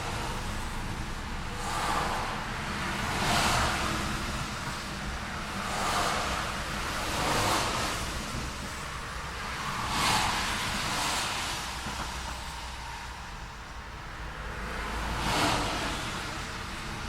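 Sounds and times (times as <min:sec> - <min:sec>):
cars passing: 0:00.0 - 0:17.0
low traffic rumble: 0:00.0 - 0:17.0.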